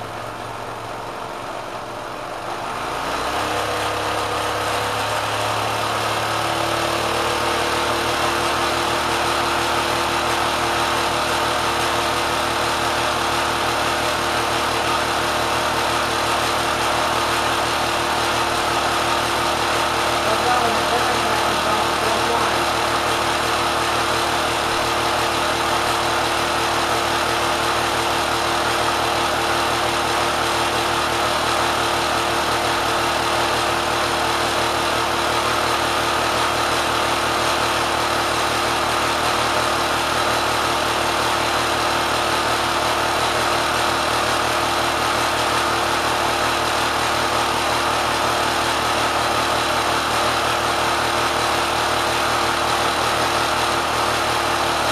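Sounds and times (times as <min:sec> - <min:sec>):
sewing machine running fast: 0:00.0 - 0:54.9.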